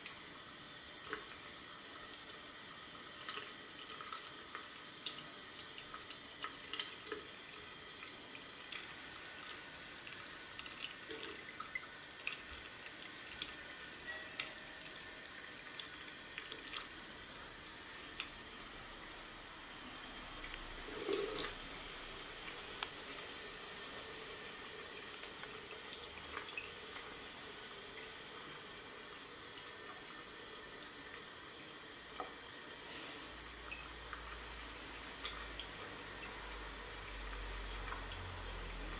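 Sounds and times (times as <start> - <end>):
tap water running into basin: 0.0 - 38.9.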